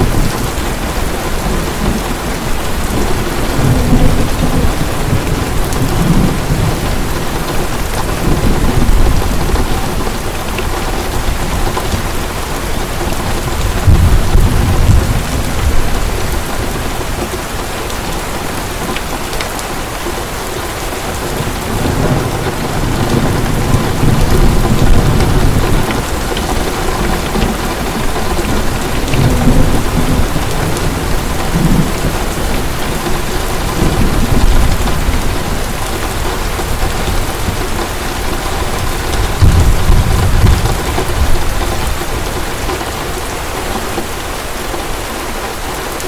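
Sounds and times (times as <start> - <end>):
thunder rolling: 0.0 - 17.4, 21.1 - 43.0
heavy rain: 0.0 - 46.0.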